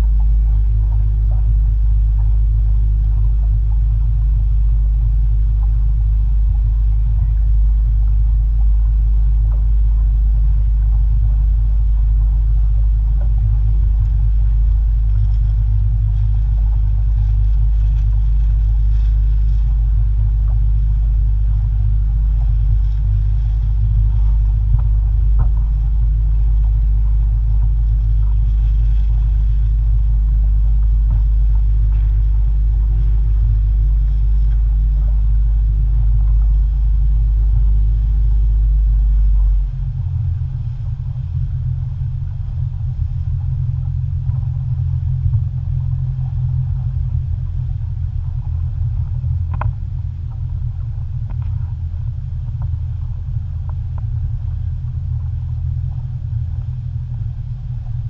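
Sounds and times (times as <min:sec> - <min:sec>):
motorboat engine rumbling: 0:00.0 - 0:58.0.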